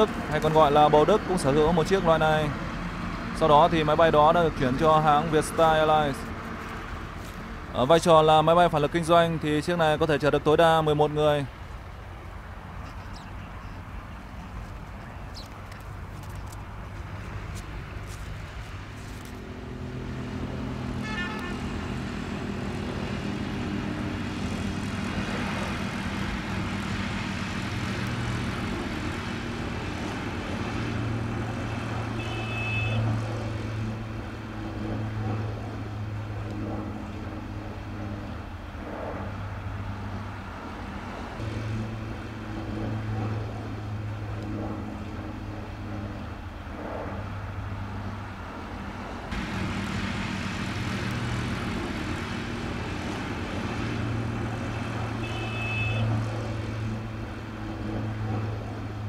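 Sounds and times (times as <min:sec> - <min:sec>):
propeller plane droning overhead: 0:00.0 - 0:59.0.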